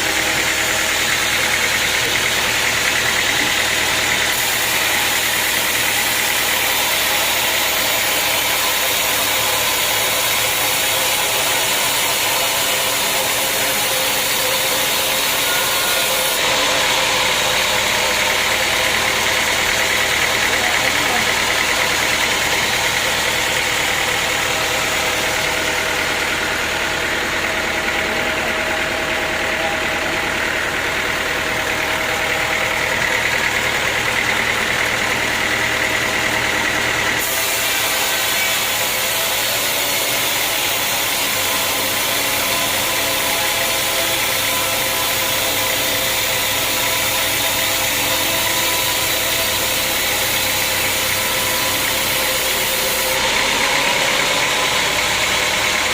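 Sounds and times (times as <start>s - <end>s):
sawmill machinery droning: 0.0s - 55.9s.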